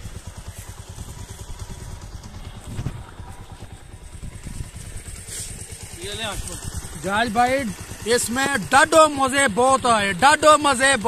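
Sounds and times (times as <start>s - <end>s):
small motorcycle engine idling: 0.0s - 11.0s.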